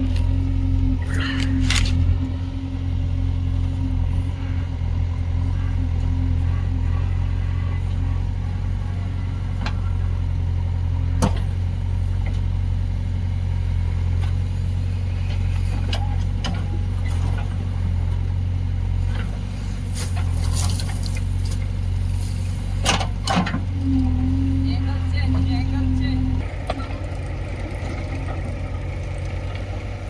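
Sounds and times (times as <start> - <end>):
diesel engine running at low revs: 0.0 - 30.0.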